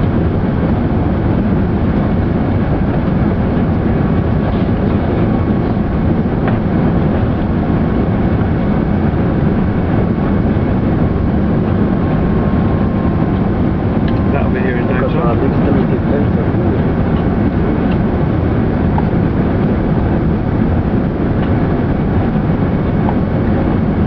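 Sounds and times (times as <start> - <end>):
airliner cabin engine rumble: 0.0 - 24.0
faint steady whine: 0.0 - 24.0.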